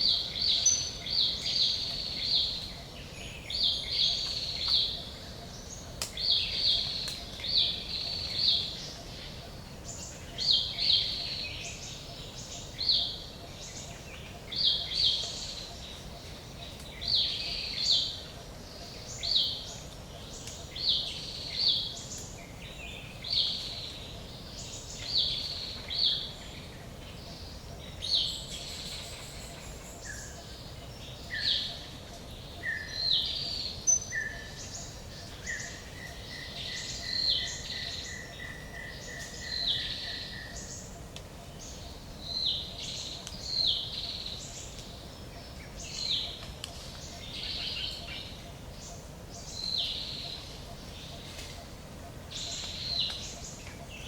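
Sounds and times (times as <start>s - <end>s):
woods background hiss: 0.0s - 54.0s.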